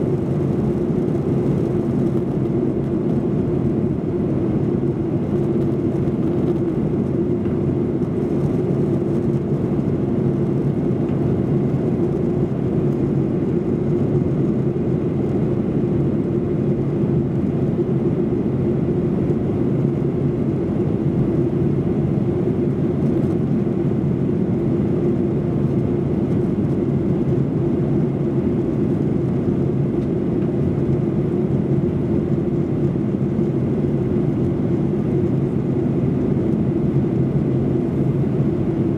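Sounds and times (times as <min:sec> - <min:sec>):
airliner cabin engine rush: 0:00.0 - 0:38.9.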